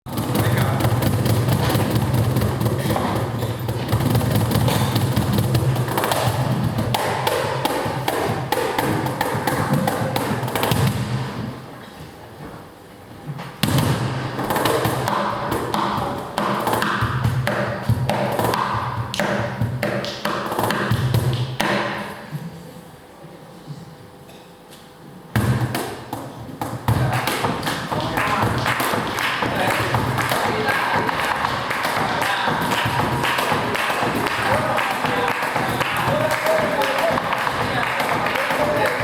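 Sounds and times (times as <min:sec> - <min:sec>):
cajon played by hand: 0:00.1 - 0:11.6, 0:13.6 - 0:22.2, 0:25.4 - 0:39.0.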